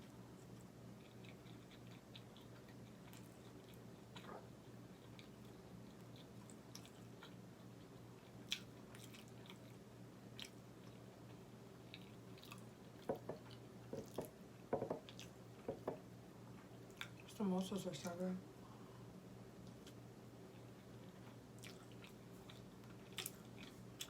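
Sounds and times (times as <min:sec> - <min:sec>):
person chewing food: 0:00.5 - 0:14.4, 0:15.0 - 0:15.7, 0:16.5 - 0:17.3, 0:19.6 - 0:24.0.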